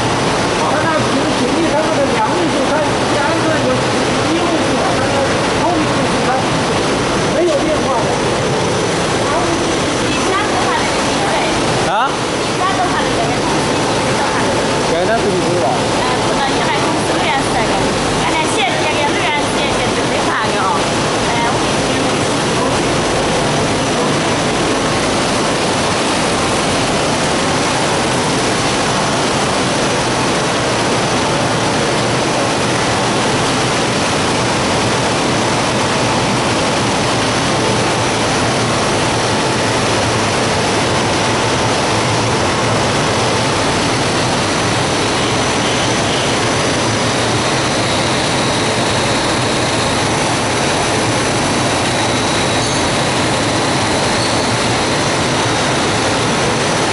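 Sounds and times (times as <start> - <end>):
printing machine rushing noise: 0.0 - 56.9.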